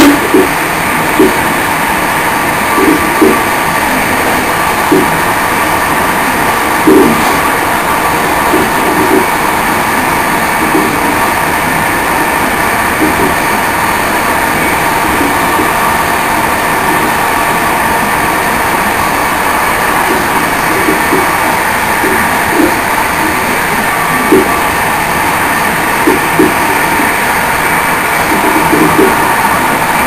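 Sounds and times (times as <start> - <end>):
train wheels on rails: 0.0 - 30.0.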